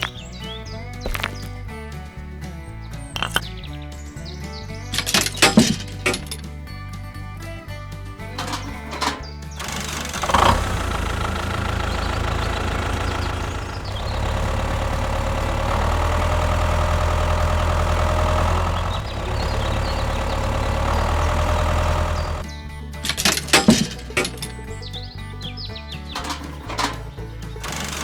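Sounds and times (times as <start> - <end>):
engine running: 0.0 - 1.8, 3.2 - 3.6, 4.8 - 6.6, 8.2 - 28.0.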